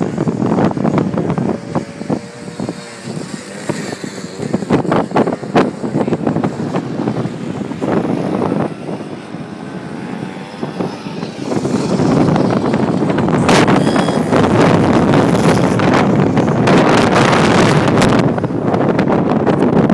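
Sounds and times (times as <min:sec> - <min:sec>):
quad bike engine running: 0:00.0 - 0:19.9
wind buffeting on microphone: 0:00.0 - 0:19.9.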